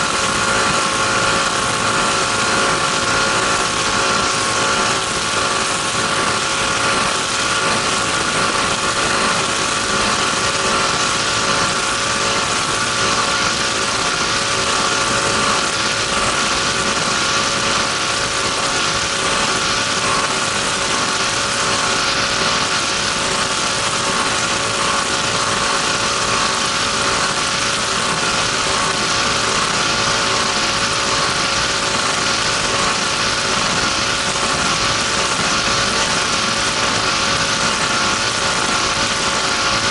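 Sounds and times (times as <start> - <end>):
powerboat engine running: 0.0 - 39.9.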